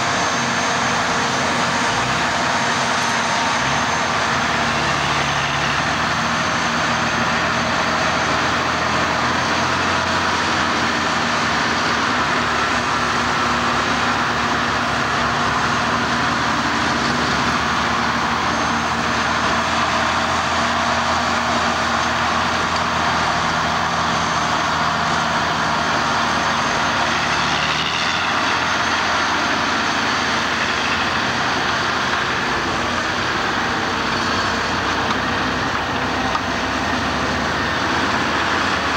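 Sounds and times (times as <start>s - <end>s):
diesel truck engines running: 0.0s - 38.9s.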